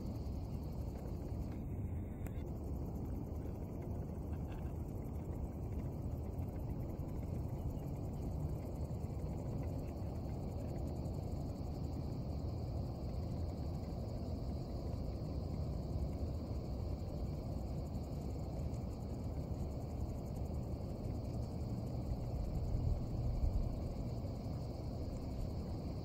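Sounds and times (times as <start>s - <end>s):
insects chirring: 0.0s - 26.0s
wind rumble on microphone: 2.3s - 26.0s.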